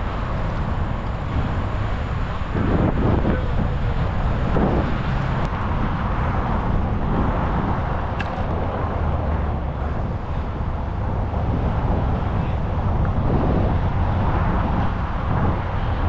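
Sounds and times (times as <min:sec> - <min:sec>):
bicycle ride hum: 0:00.0 - 0:16.0
wind rumbling over microphone: 0:00.0 - 0:16.0.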